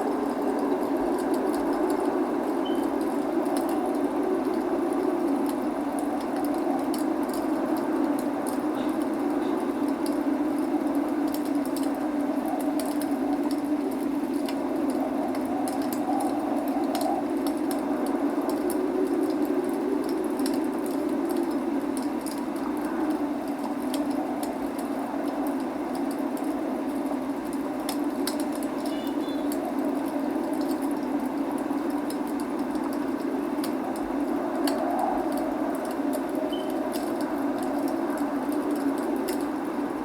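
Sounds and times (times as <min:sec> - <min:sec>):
rain hiss: 0:00.0 - 0:40.0
wood fire crackling and popping: 0:00.0 - 0:40.0.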